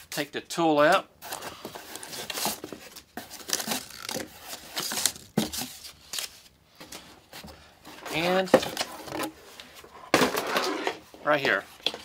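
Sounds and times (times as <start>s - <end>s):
cardboard packaging rustling: 1.2s - 11.1s.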